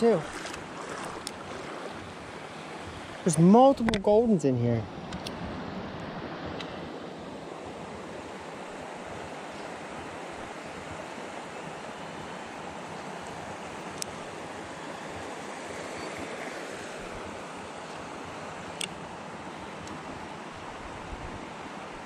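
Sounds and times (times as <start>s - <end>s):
flowing creek water: 0.0s - 22.0s.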